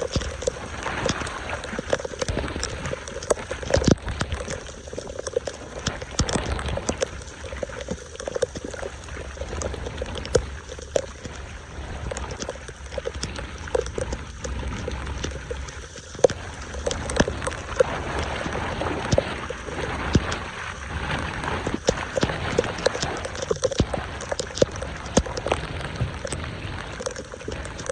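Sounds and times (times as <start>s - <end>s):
sharp clicks and splashes: 0.0s - 27.9s
water gurgling into a drain: 0.0s - 27.9s.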